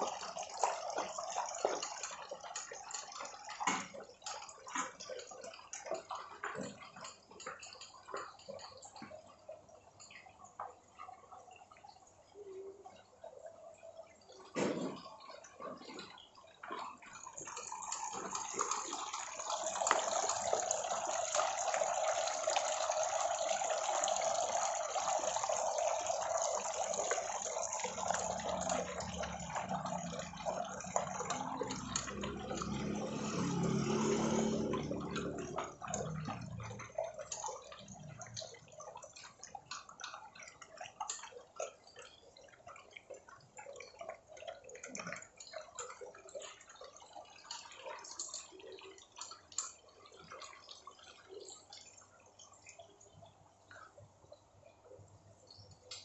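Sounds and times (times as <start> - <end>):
dogs chewing wet food: 0.0 - 12.2, 12.8 - 55.1
running water: 0.0 - 56.0.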